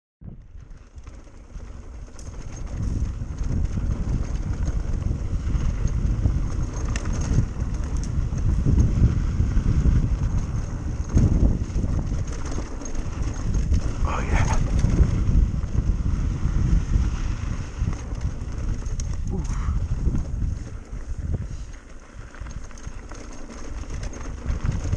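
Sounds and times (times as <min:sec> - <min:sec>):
wind buffeting microphone: 0:00.2 - 0:24.9
tyres rumbling over dirt: 0:00.6 - 0:24.9.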